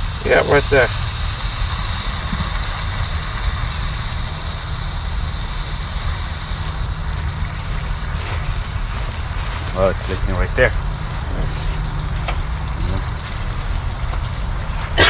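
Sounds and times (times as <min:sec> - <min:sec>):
engine idling: 0:00.0 - 0:15.0
pressurised water spraying: 0:00.0 - 0:15.0.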